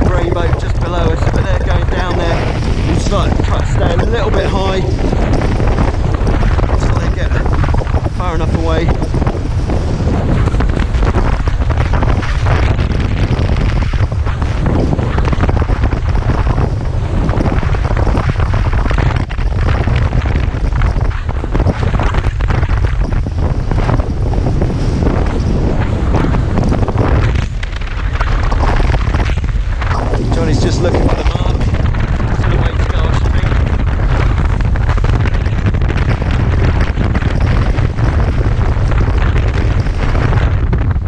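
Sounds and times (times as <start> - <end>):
water rushing along hull: 0.0 - 41.0
wind buffeting microphone: 0.0 - 41.0.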